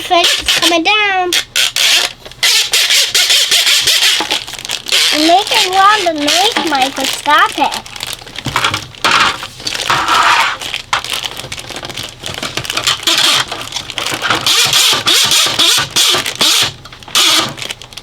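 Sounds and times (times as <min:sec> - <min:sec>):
plastic bags crinkling: 0:01.5 - 0:18.0.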